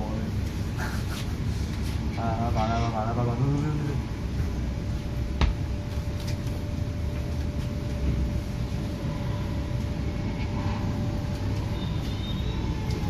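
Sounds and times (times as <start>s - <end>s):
train and station hum: 0.0s - 13.0s.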